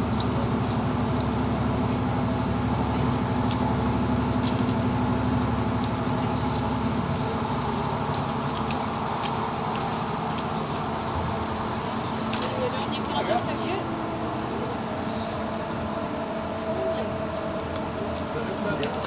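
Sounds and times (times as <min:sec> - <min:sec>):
train engine and wheels rumble: 0:00.0 - 0:19.0.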